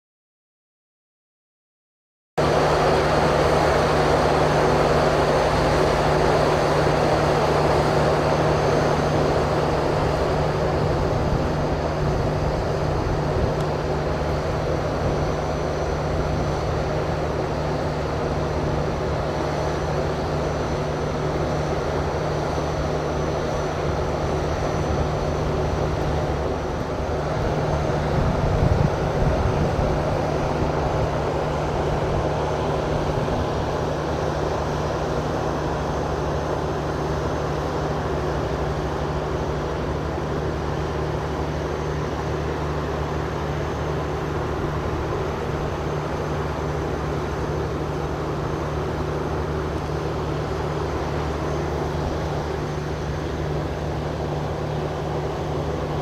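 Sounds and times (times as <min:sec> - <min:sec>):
train machinery low hum: 0:02.4 - 0:56.0.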